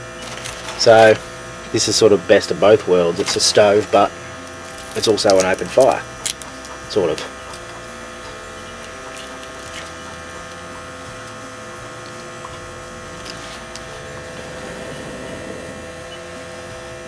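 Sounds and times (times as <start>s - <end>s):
burning sticks crackling: 0.0s - 17.0s
stove fan humming: 0.0s - 17.0s.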